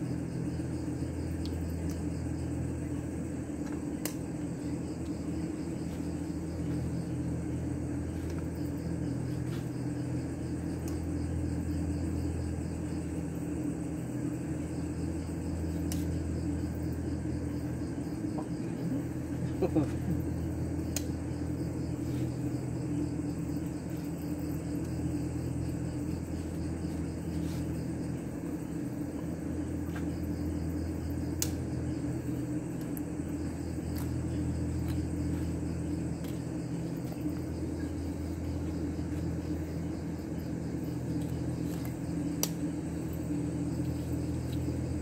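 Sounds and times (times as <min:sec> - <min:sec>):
insects chirping: 0:00.0 - 0:45.0
low mechanical hum: 0:00.0 - 0:45.0.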